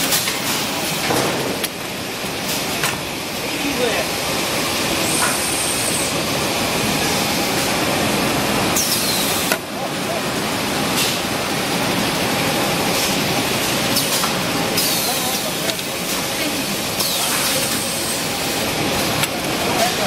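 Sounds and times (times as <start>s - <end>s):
packing machine running: 0.0s - 20.0s.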